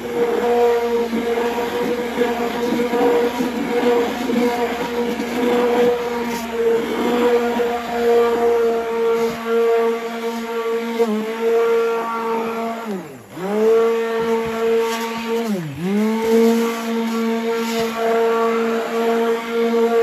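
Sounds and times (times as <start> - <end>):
stick blender motor whining: 0.0 - 20.0.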